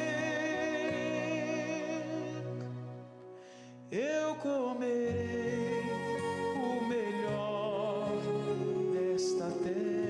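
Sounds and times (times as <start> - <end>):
instrumental accompaniment: 0.0 - 10.0
person singing gospel song: 0.0 - 10.0.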